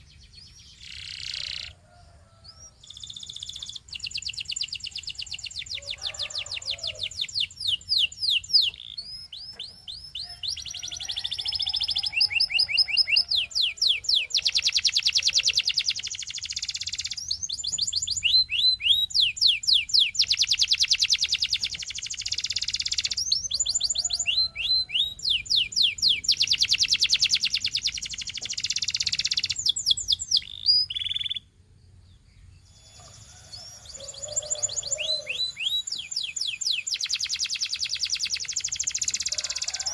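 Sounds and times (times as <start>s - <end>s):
canary singing trills: 0.0s - 1.8s, 2.4s - 31.5s, 32.4s - 39.9s.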